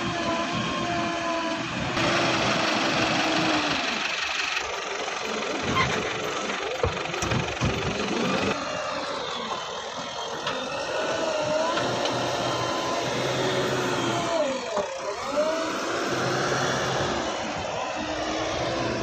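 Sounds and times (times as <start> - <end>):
diesel engine running under load: 0.0 - 19.0.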